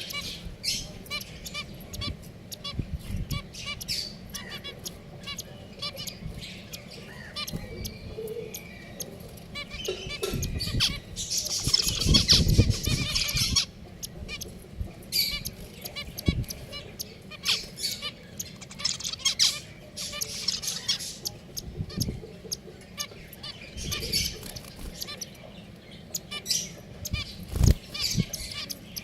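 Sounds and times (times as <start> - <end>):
finches chirping: 0.0 - 29.0.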